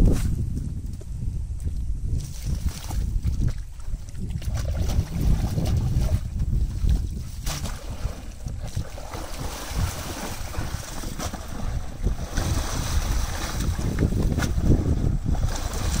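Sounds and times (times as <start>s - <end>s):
wind buffeting microphone: 0.0s - 16.0s
water sloshing: 2.2s - 16.0s.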